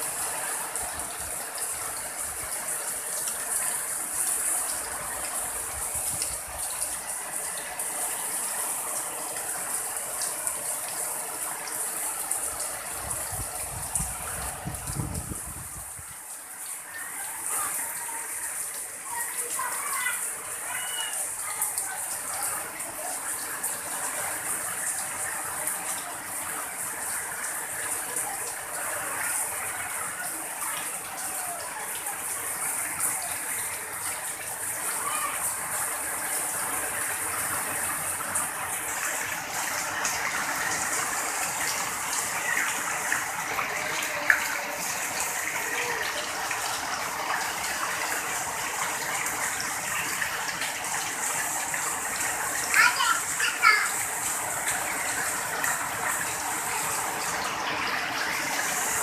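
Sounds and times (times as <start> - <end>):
heavy rain on roof and leaves: 0.0 - 59.0
water running off roof: 0.0 - 59.0.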